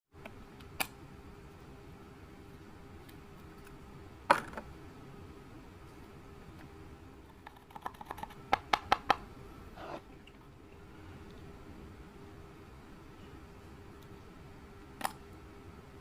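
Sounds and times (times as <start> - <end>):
faint steady hum: 0.1 - 16.0.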